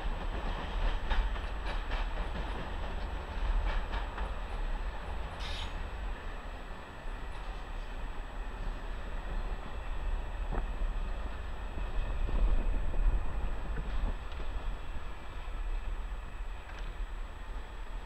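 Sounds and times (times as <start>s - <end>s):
train rumbling: 0.0s - 18.0s
wind buffeting microphone: 0.0s - 18.0s.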